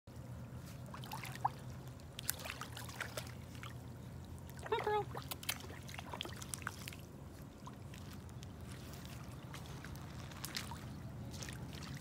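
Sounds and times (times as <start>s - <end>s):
small water splashes: 0.2s - 12.0s
water trickling: 0.2s - 12.0s.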